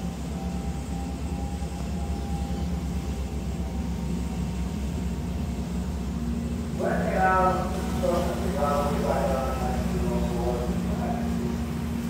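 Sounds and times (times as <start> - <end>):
low drone of ship engines: 0.0 - 12.0.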